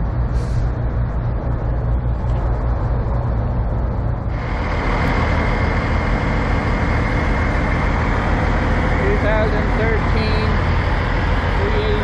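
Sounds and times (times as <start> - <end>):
steady high whine: 0.0 - 12.0
truck engines idling: 0.0 - 12.0.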